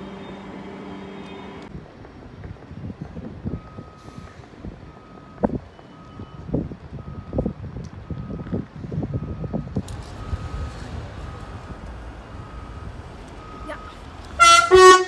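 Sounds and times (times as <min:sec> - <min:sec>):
electric train hum: 0:00.0 - 0:15.0
low rumbling: 0:00.0 - 0:15.0.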